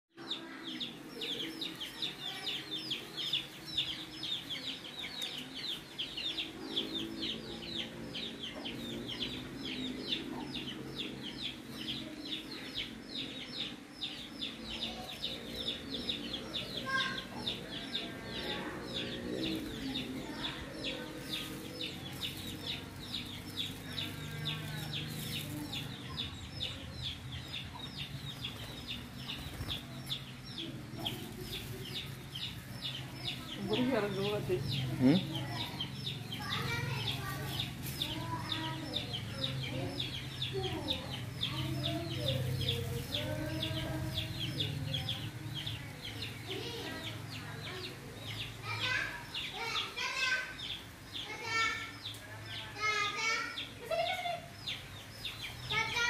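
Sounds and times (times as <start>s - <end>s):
chicks peeping: 0.2s - 56.0s
chickens clucking: 0.7s - 52.2s.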